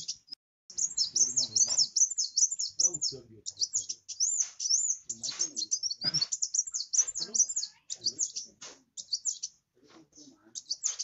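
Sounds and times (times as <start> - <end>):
sunbird singing: 0.0 - 11.0.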